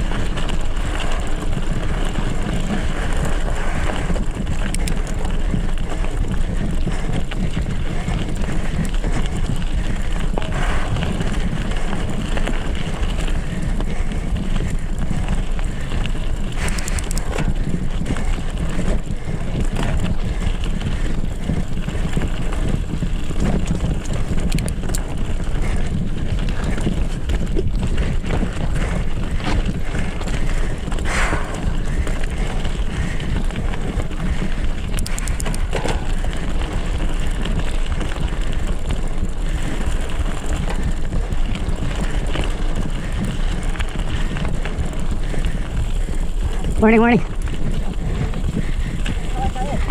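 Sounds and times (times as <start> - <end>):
bike rattles and clicks: 0.0 - 49.9
wind buffeting microphone: 0.0 - 49.9.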